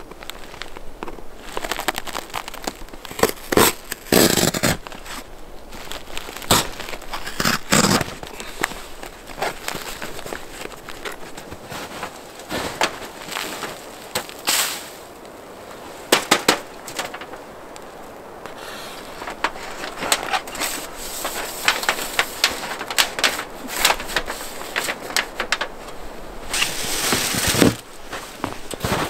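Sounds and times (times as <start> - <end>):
footsteps in snow: 0.0 - 16.1, 16.7 - 29.0.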